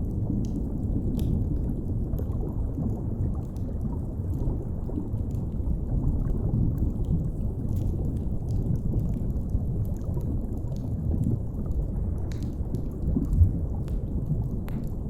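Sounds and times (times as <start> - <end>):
underwater low rumble: 0.0 - 15.0.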